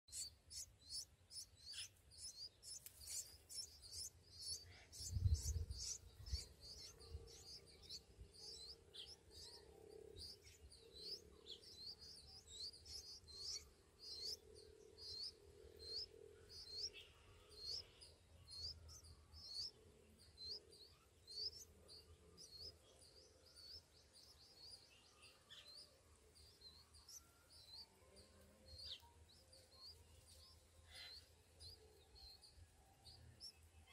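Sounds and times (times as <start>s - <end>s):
nestlings chirping: 0.0s - 33.9s.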